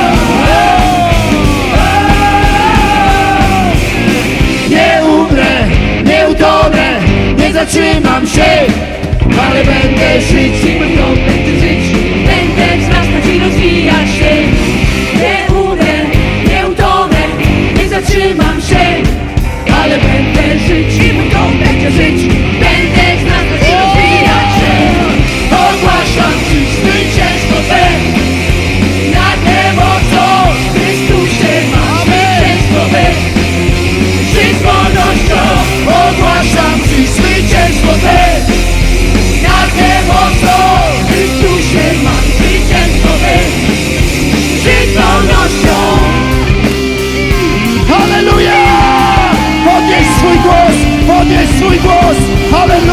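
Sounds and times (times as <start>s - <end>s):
person singing: 0.0s - 3.9s, 4.6s - 28.3s, 34.2s - 43.8s, 44.6s - 46.7s, 47.3s - 52.9s
rock band playing: 0.0s - 52.9s.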